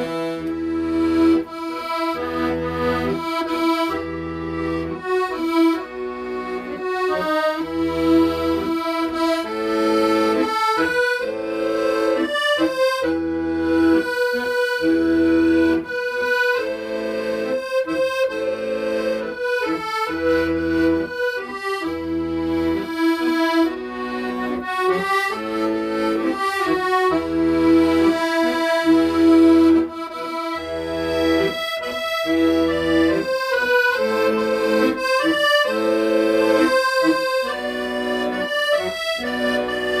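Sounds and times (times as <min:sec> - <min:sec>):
accordion playing slow melody: 0:00.0 - 0:40.0.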